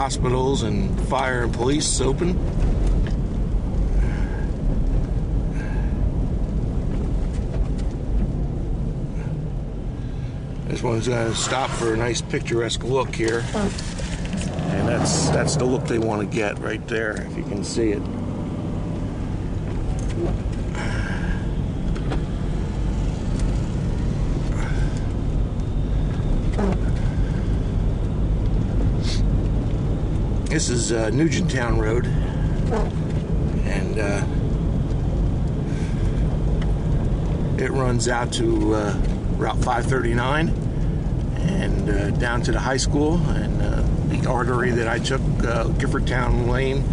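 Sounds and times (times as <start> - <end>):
car driving rumble inside cabin: 0.0 - 46.9.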